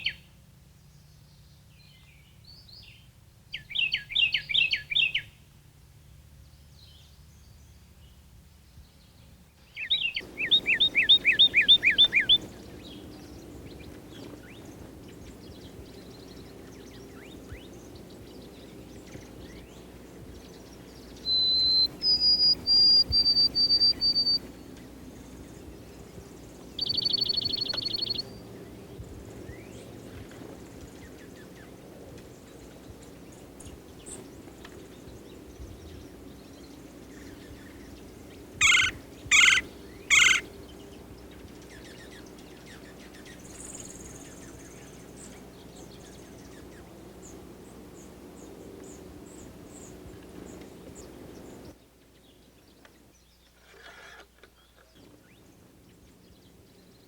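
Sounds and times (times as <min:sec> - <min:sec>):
low steady hum: 0:00.0 - 0:53.5
songbirds singing: 0:00.0 - 0:57.0.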